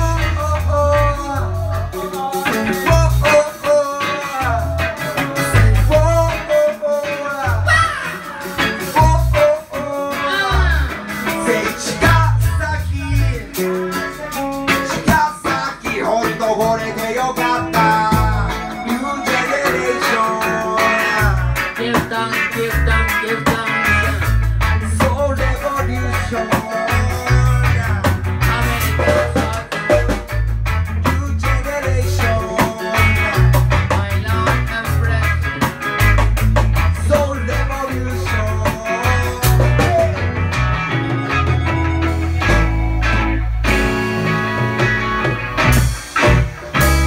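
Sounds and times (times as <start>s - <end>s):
bass line: 0.0s - 47.0s
live band playing reggae: 0.0s - 47.0s.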